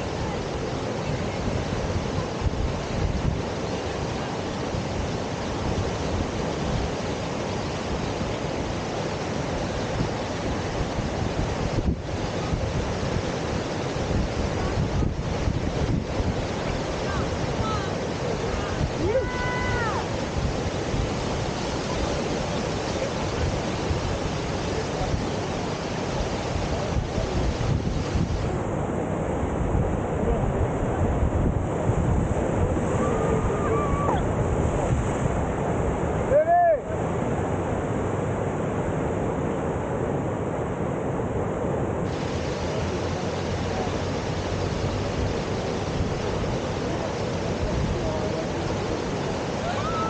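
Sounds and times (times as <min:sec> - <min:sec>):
river water rushing: 0:00.0 - 0:50.0
wind on microphone: 0:00.0 - 0:50.0.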